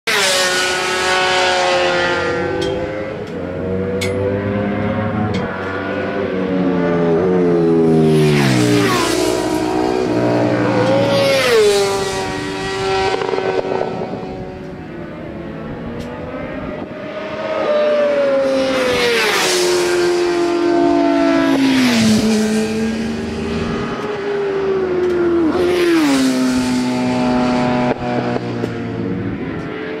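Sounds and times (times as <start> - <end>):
racing motorcycles passing by: 0.1 - 30.0.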